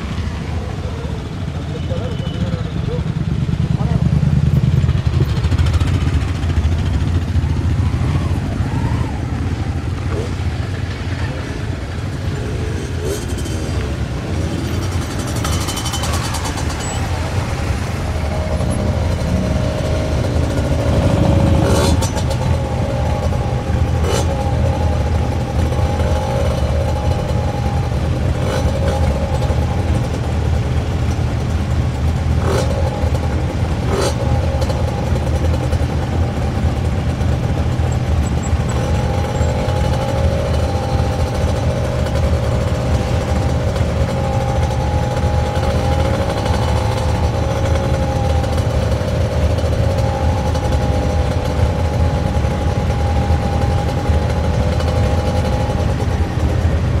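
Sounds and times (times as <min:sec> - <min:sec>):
motorcycle engines idling: 0:00.0 - 0:57.0.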